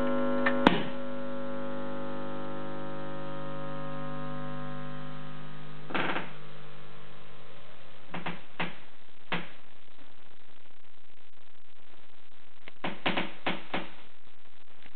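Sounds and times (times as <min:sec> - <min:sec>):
record player chord: 0:00.0 - 0:14.9.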